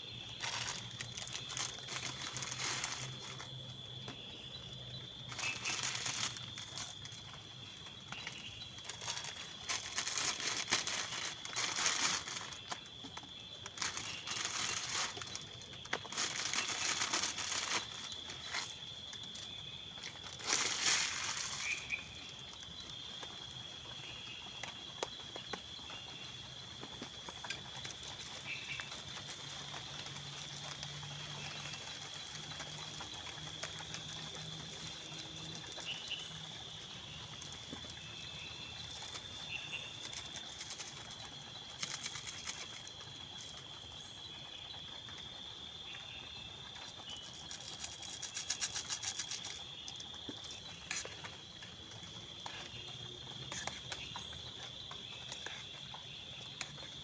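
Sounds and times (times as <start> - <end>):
insects chirring: 0.0 - 57.0
short insect chirps: 0.0 - 57.0.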